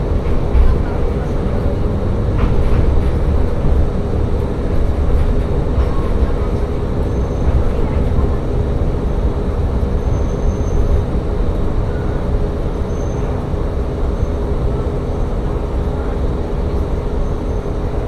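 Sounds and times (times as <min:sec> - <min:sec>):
train engine and wheels droning: 0:00.0 - 0:18.0.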